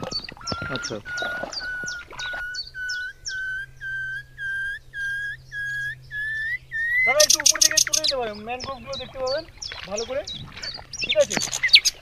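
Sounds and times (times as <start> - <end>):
bird whistling call: 0.0 - 12.0
faint low hum: 0.0 - 12.0.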